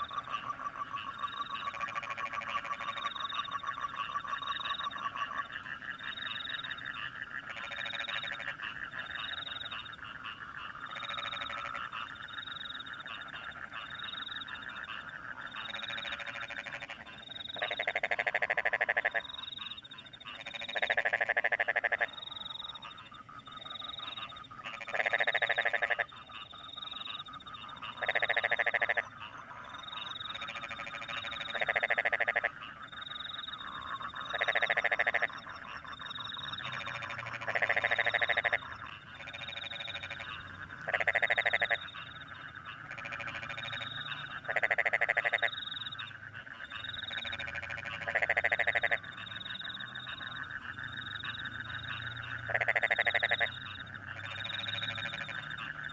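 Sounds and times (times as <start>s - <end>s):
crickets chirping: 0.0s - 55.9s
frog chorus: 0.0s - 55.9s
loud frog croak: 0.0s - 55.9s.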